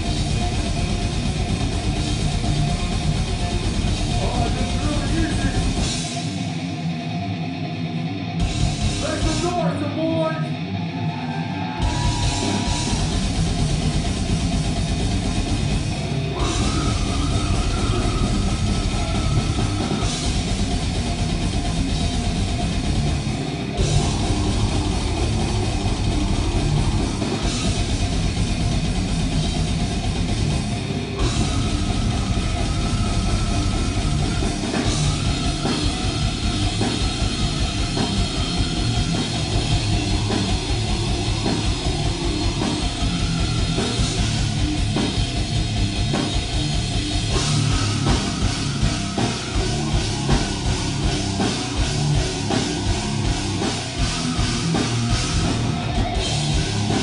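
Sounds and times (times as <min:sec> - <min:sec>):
pounding drums and cymbals: 0:00.0 - 0:06.6, 0:08.4 - 0:10.2, 0:11.7 - 0:57.0
distorted guitars: 0:00.0 - 0:57.0.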